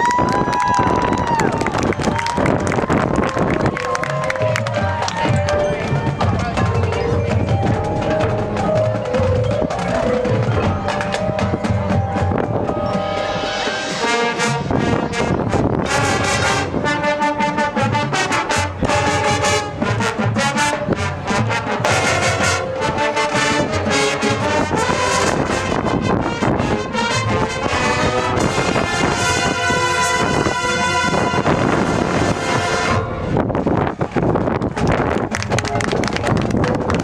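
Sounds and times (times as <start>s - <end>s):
wind on microphone: 0.0s - 37.0s
marching band playing: 1.8s - 37.0s.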